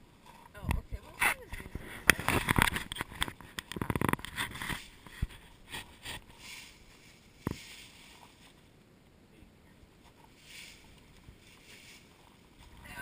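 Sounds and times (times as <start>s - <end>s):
rustling and scraping: 0.0s - 8.9s, 9.9s - 13.0s.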